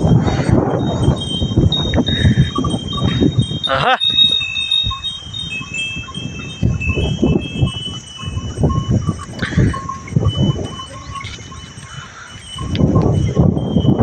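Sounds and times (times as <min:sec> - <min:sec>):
cattle hooves shuffling on dirt: 0:00.0 - 0:13.8
cattle bells ringing: 0:00.0 - 0:14.0.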